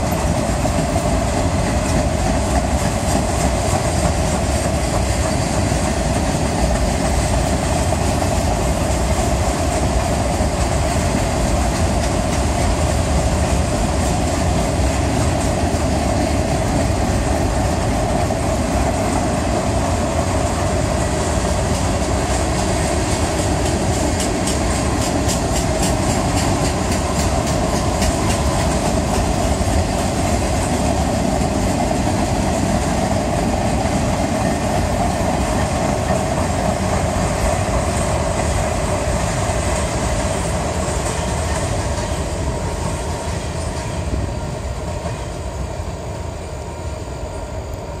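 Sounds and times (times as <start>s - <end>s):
clickety-clack over rail joints: 0.0s - 46.0s
train wheels rumbling on rail: 0.0s - 48.0s.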